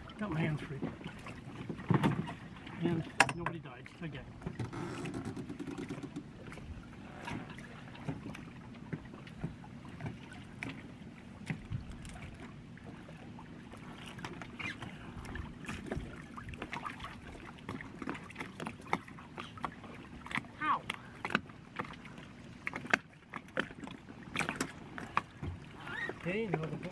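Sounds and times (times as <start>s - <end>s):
water lapping against dinghy: 0.0s - 26.9s.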